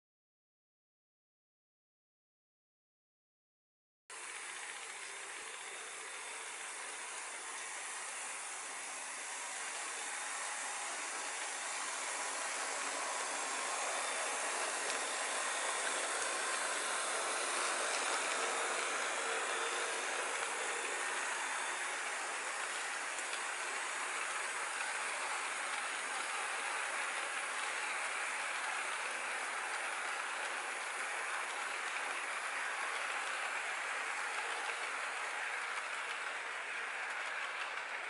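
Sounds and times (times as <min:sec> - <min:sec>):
model train whirring clatter: 0:04.1 - 0:38.0.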